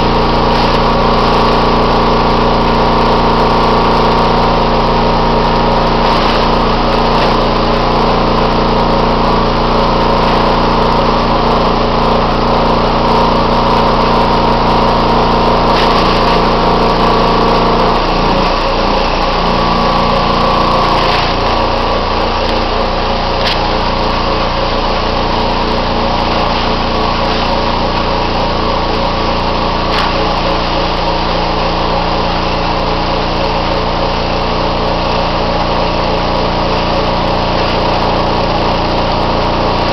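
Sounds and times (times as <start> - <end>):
machinery motor drone: 0.0 - 39.9.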